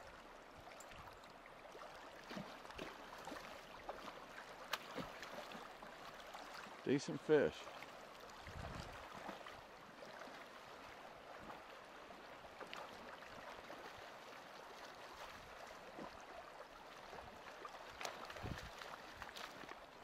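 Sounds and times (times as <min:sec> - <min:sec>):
river water rushing: 0:00.0 - 0:20.0
fish splashing in shallows: 0:01.6 - 0:06.8, 0:07.7 - 0:20.0.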